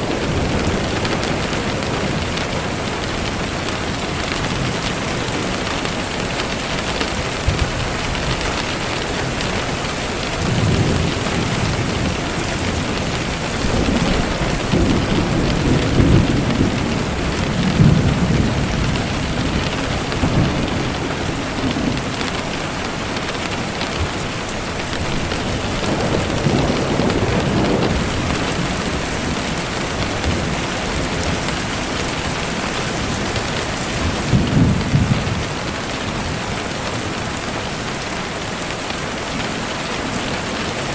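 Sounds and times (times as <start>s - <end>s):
low rolling thunder: 0.0s - 38.0s
steady rain falling: 0.0s - 40.9s.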